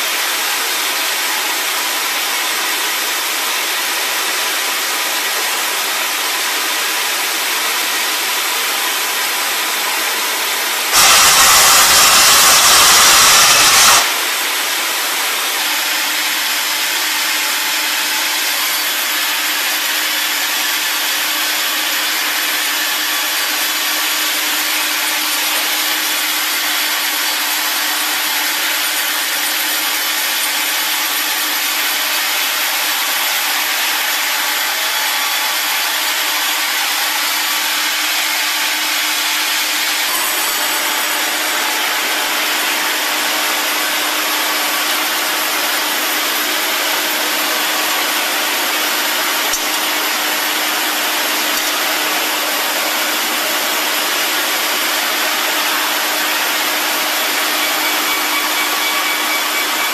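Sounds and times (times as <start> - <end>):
band saw cutting log: 10.1 - 59.9.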